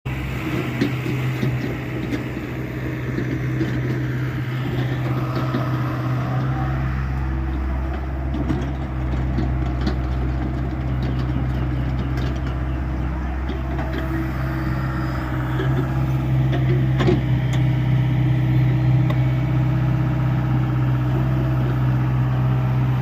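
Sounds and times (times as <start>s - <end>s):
excavator diesel engine running: 0.1s - 23.0s.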